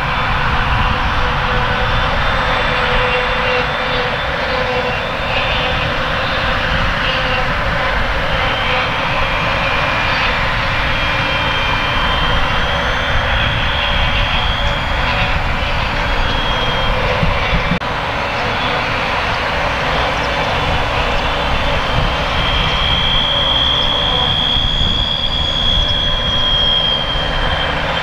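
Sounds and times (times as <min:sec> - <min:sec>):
high machine whine: 0:00.0 - 0:28.0.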